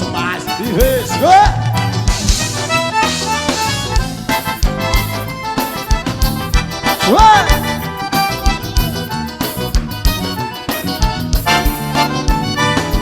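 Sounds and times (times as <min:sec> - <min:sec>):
accordion-led band music: 0:00.0 - 0:13.0.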